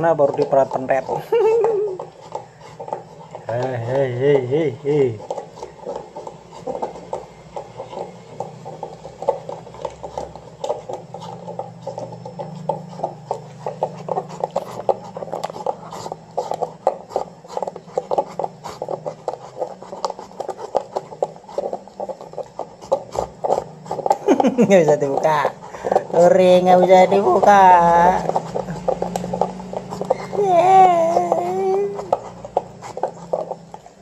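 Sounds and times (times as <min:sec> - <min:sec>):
dog chewing plastic bottle: 0:00.0 - 0:34.0.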